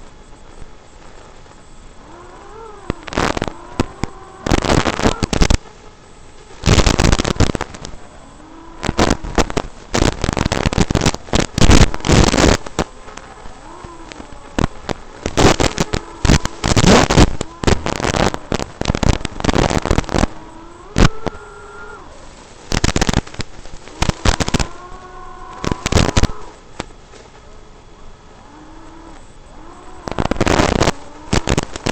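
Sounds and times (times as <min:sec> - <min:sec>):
drone motors whining: 0:00.0 - 0:31.9
harsh crackling noise bursts: 0:00.0 - 0:31.9.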